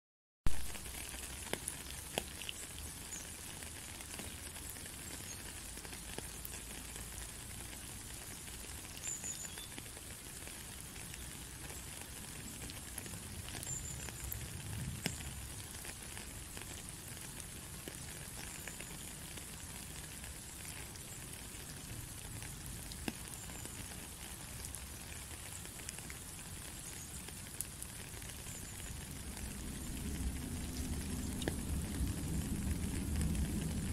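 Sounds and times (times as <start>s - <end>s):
rain on puddles: 0.5s - 33.9s
water drips: 0.5s - 33.9s.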